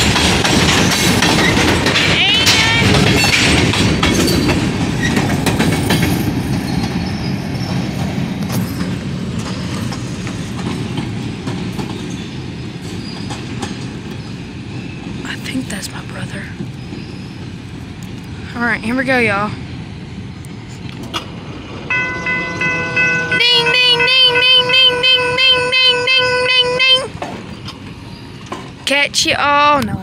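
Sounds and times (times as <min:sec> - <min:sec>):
wheel squealing on rail: 0:00.0 - 0:19.4, 0:20.2 - 0:29.0
freight train wheels clattering: 0:00.0 - 0:25.3, 0:27.0 - 0:30.0.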